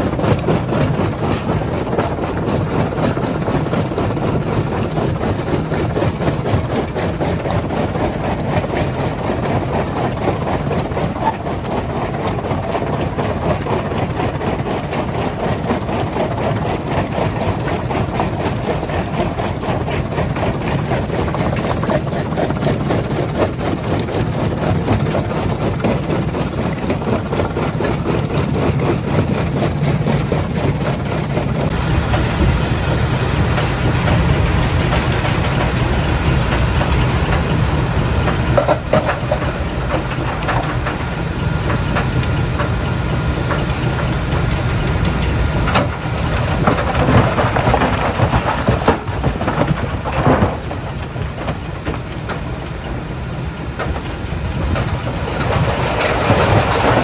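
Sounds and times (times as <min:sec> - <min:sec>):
heavy machinery running: 0:00.0 - 0:57.0.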